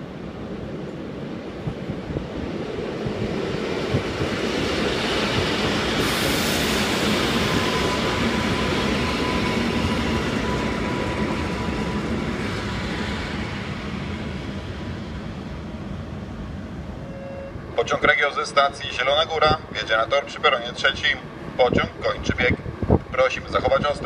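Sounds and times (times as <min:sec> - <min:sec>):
train wheel and rail rolling noise: 0:00.0 - 0:24.0.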